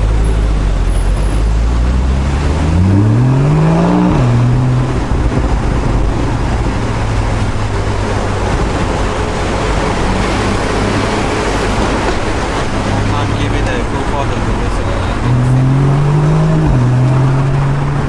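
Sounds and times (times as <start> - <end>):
car engine accelerating: 0.0 - 18.0
wind and road noise: 0.0 - 18.0.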